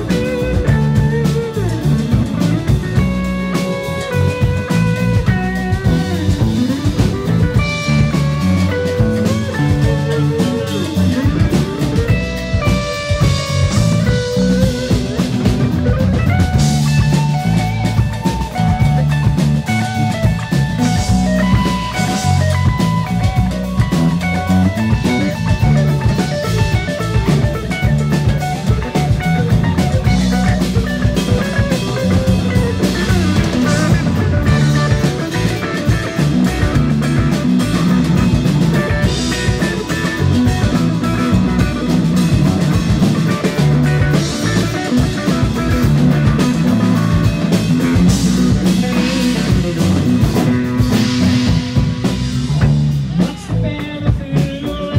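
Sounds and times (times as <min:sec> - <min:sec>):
bass notes: 0:00.0 - 0:54.9
drum kit: 0:00.0 - 0:54.9
guitar: 0:00.0 - 0:54.9.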